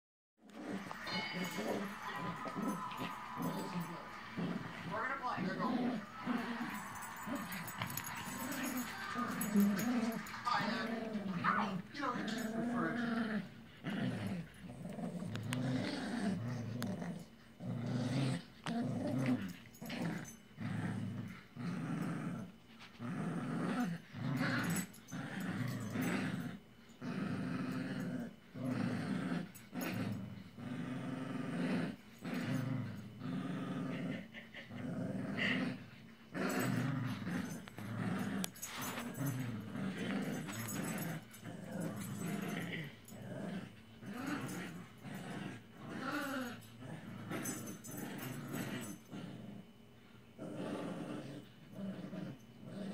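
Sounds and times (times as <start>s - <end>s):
small dogs growling: 0.4s - 52.9s.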